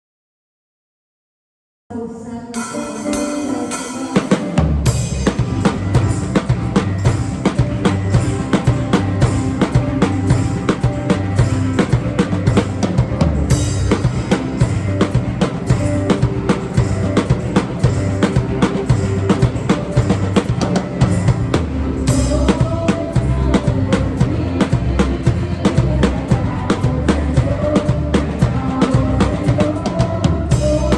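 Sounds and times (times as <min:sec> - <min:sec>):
worship music: 0:02.3 - 0:30.9
drum kit groove: 0:02.6 - 0:30.9.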